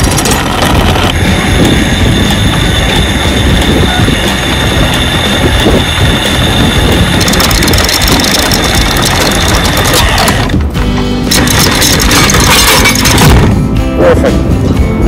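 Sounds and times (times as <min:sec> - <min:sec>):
anchor chain pulled over roller: 0:00.0 - 0:13.5
anchor windlass motor running: 0:00.0 - 0:13.8.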